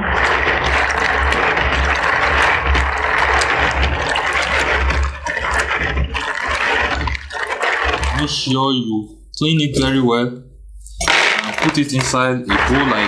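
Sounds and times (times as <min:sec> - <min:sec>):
tubers clicking together: 0:00.0 - 0:13.0
water sloshing in a bowl: 0:00.0 - 0:13.0.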